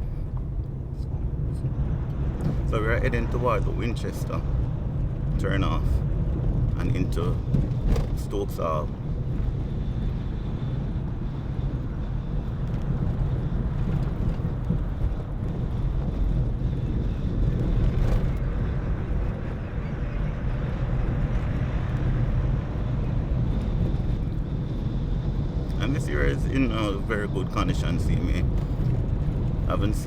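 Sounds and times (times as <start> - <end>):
car driving on a road: 0.0 - 30.0
wind noise on microphone: 0.0 - 30.0.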